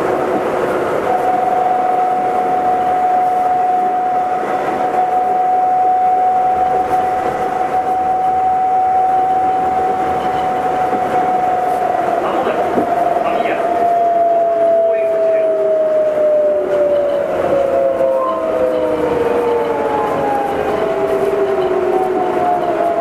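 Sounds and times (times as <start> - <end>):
tyres rumbling on guideway: 0.0 - 23.0.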